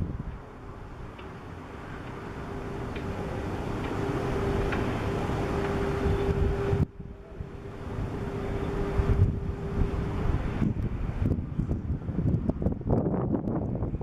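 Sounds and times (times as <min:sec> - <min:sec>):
helicopter whine: 0:01.2 - 0:13.1
helicopter rotor rumble: 0:01.2 - 0:14.0.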